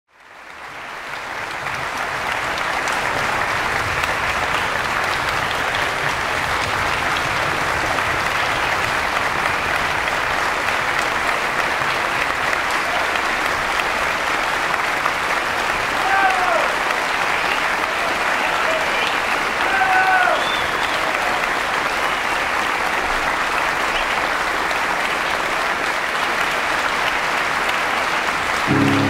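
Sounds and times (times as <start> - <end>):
audience applauding: 0.1 - 29.0.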